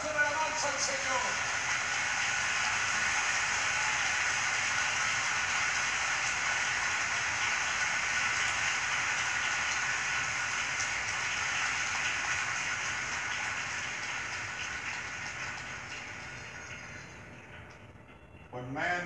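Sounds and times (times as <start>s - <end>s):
stadium crowd applauding: 0.0s - 17.4s.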